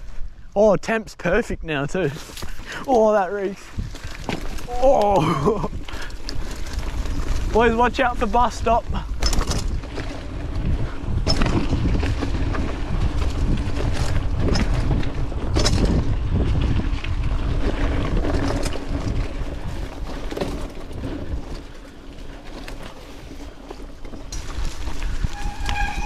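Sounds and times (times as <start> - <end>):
tyres rolling on dirt: 1.8 - 26.0
bike rattling: 2.0 - 26.0
wind rushing over microphone: 3.4 - 22.7, 24.1 - 26.0.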